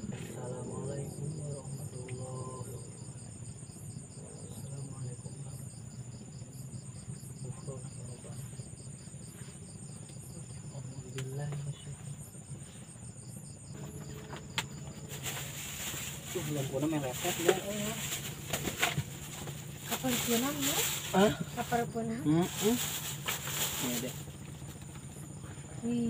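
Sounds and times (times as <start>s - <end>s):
faint low hum: 0.0s - 26.0s
night insects trilling: 0.0s - 26.0s.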